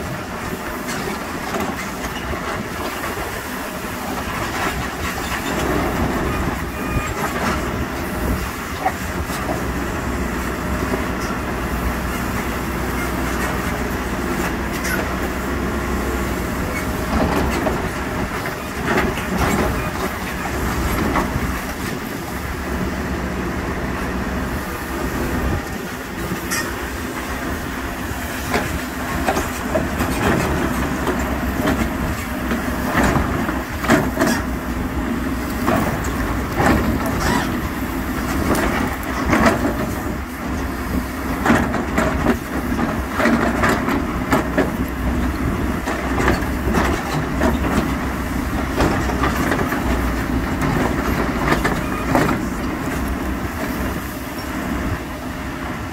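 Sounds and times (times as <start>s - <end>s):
diesel machinery running: 0.0s - 55.9s.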